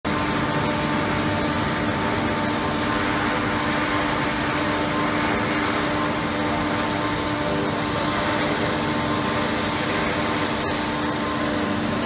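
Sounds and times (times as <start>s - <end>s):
machinery hum: 0.1s - 12.0s.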